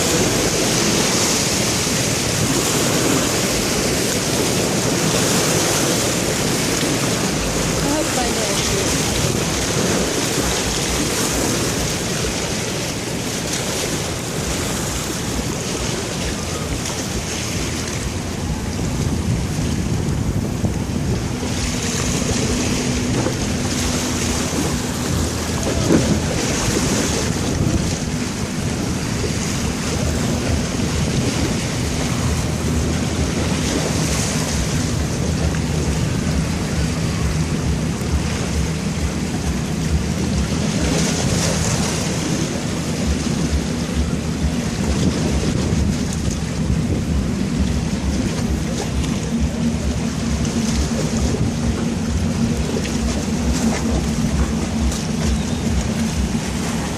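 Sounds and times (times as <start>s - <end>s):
sea water rushing: 0.0s - 56.9s.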